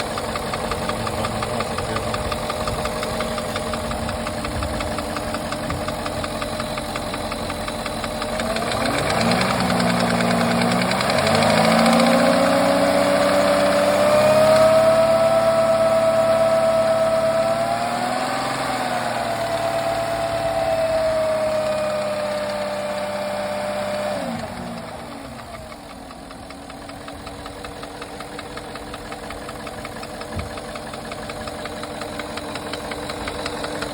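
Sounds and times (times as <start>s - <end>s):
car engine knocking and revving: 0.0s - 33.9s.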